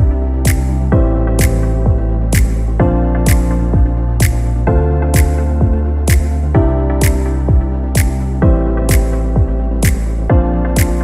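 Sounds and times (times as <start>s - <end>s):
deep kick drum: 0.0s - 11.0s
electronic music with steady beat: 0.0s - 11.0s
held synth chords: 0.0s - 11.0s.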